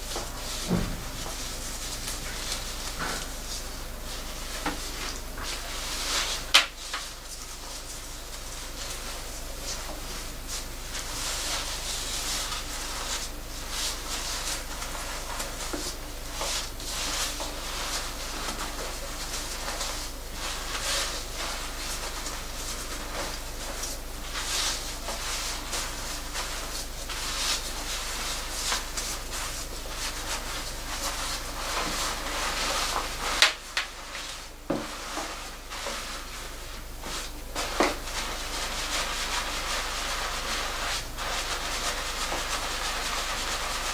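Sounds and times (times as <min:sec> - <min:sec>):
hands scrubbing wet lathered hair: 0:00.0 - 0:43.9.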